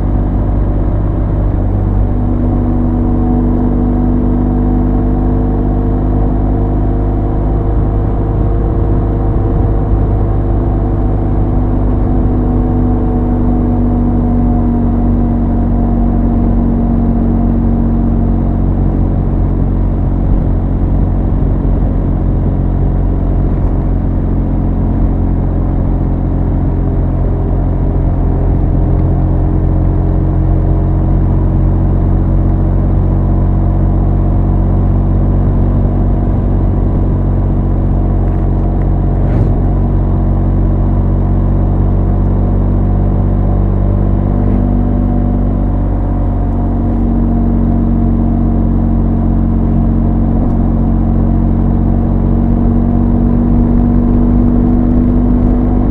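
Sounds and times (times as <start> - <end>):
motorcycle engine cruising: 0.0 - 55.9.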